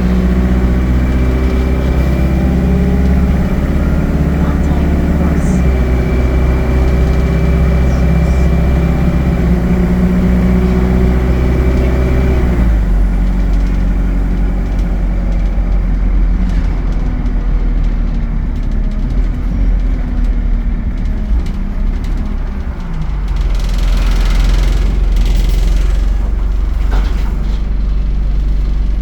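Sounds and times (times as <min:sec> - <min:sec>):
bus engine running: 0:00.0 - 0:29.0
cooling fan whining: 0:00.0 - 0:29.0.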